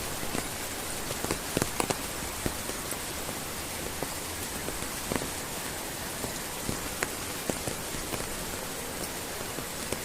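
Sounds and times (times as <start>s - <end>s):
steady rain: 0.0s - 10.0s
water drips striking: 0.0s - 10.0s.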